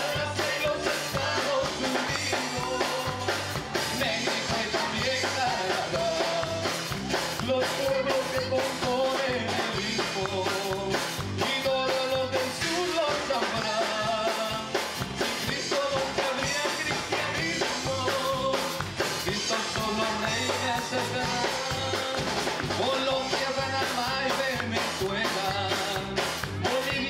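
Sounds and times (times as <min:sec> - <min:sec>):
electric bass: 0:00.0 - 0:27.0
keyboard playing: 0:00.0 - 0:27.0
men singing into microphones: 0:00.0 - 0:27.0
rock drum beat: 0:00.0 - 0:27.0.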